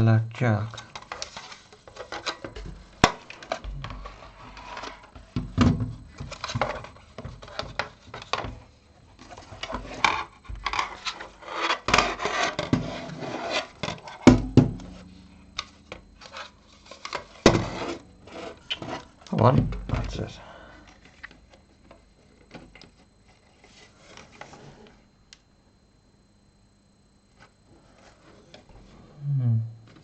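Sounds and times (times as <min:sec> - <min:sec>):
rubbing and scraping of radio parts: 0:00.7 - 0:25.2, 0:27.3 - 0:29.0.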